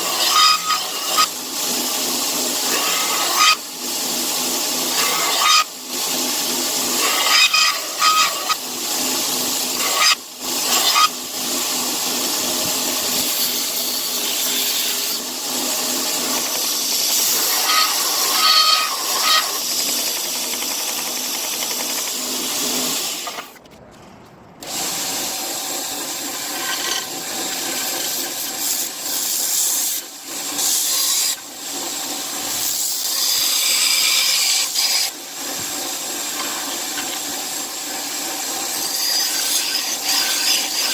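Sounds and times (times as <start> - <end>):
power tool grinding: 0.0 - 23.8, 24.6 - 40.9.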